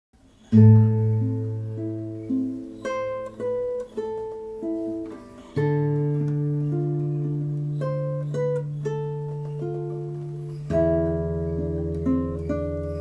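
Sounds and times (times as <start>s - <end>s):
plucked string instrument solo: 0.5s - 13.0s.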